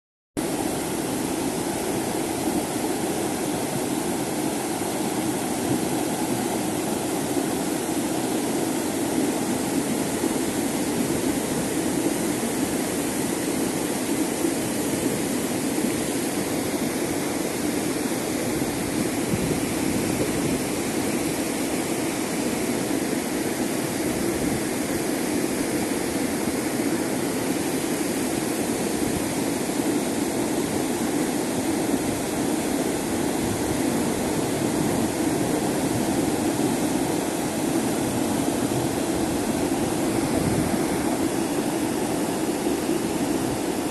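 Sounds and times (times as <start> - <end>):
river water rushing over stones: 0.4 - 43.9.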